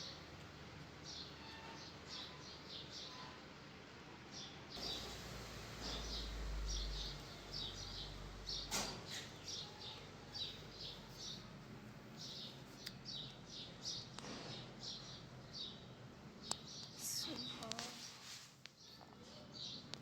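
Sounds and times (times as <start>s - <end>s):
small birds chirping: 1.0s - 3.4s, 5.8s - 18.1s, 18.7s - 20.0s.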